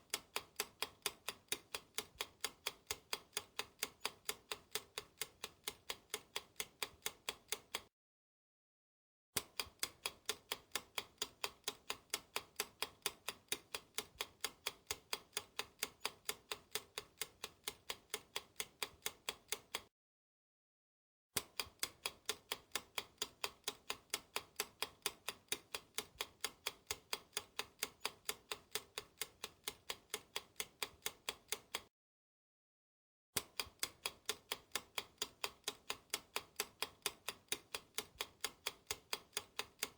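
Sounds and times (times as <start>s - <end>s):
clock ticking rapidly: 0.0s - 7.9s, 9.4s - 19.9s, 21.4s - 31.9s, 33.4s - 39.9s.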